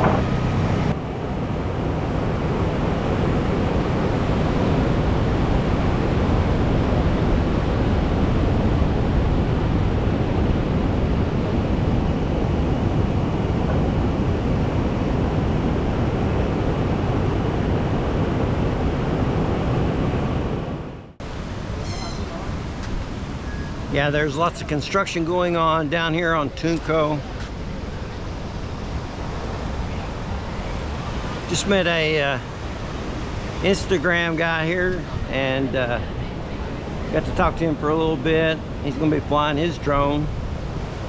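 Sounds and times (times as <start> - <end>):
ocean surf roaring: 0.0 - 41.0
wind buffeting microphone: 0.0 - 41.0.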